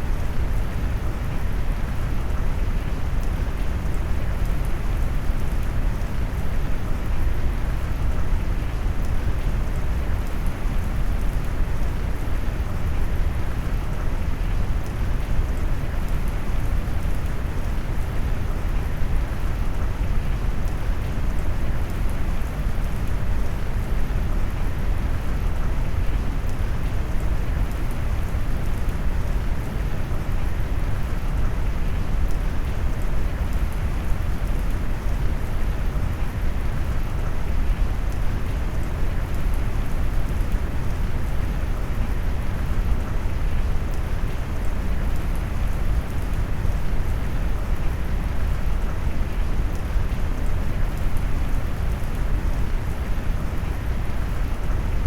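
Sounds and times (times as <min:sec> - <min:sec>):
rain with brown noise: 0:00.0 - 0:55.0.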